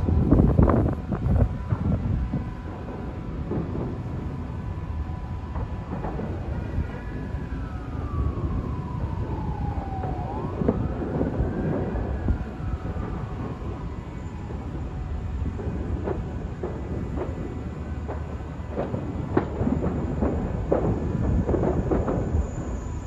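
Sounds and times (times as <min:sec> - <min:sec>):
distant siren wailing: 0:00.0 - 0:23.0
low rumble of city noise: 0:00.0 - 0:23.0.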